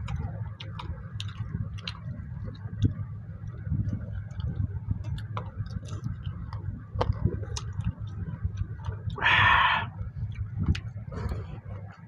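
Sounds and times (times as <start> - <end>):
chewing and lip-smacking: 0.0 - 9.2, 10.0 - 12.0.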